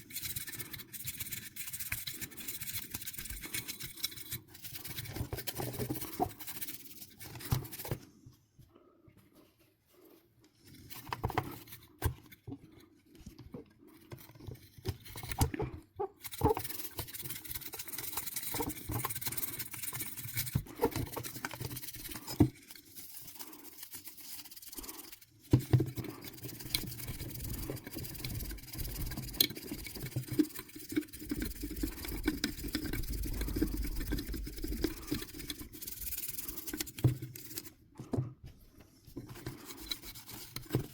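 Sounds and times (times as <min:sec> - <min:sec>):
scratching and rubbing small parts: 0:00.0 - 0:08.4, 0:09.2 - 0:40.9.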